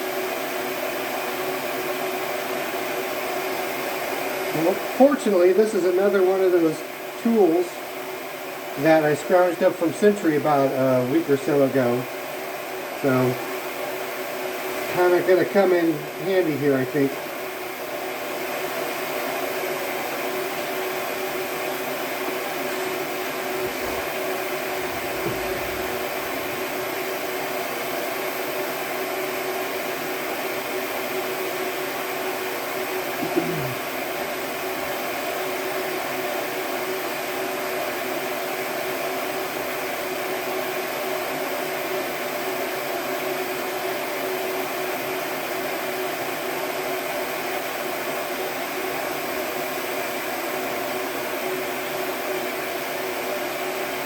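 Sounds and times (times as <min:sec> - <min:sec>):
shop machinery whirring hum: 0:00.0 - 0:54.0.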